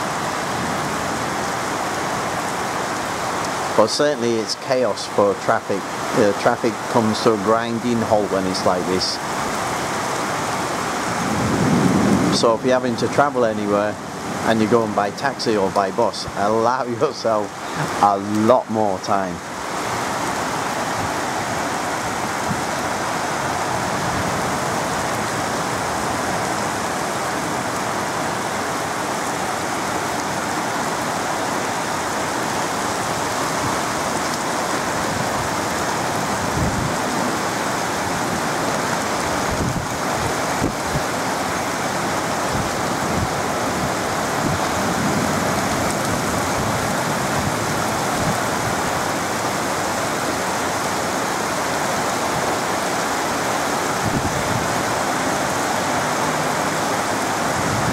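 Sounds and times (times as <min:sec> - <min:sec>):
heavy rain hiss: 0:00.0 - 0:57.9.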